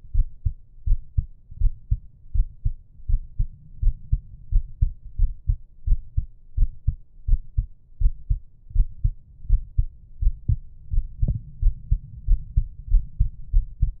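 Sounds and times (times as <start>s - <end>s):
heartbeat double thumps: 0.1s - 14.0s.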